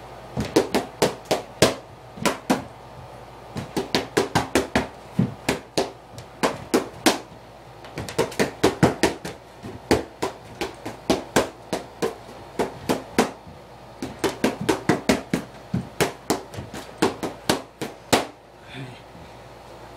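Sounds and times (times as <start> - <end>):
boxing gloves hitting mitts: 0.4 - 2.7, 3.6 - 7.3, 7.9 - 18.4.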